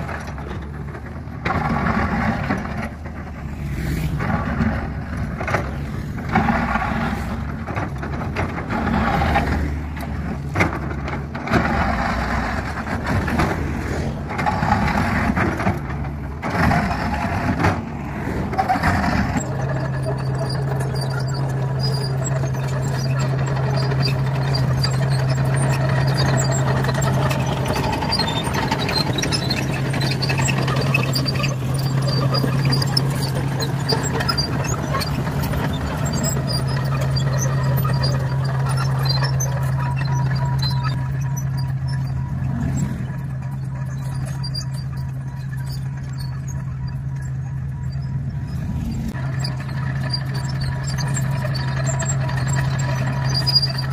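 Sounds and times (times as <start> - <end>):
diesel engine running: 0.0 - 53.9
excavator bucket scraping asphalt: 0.0 - 53.9
tracks clinking over asphalt: 0.0 - 53.9.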